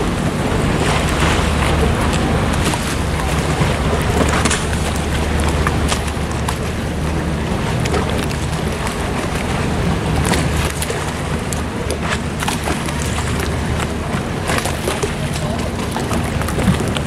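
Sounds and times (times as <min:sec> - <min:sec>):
boat engine hum: 0:00.0 - 0:17.0
water and wind noise: 0:00.0 - 0:17.0.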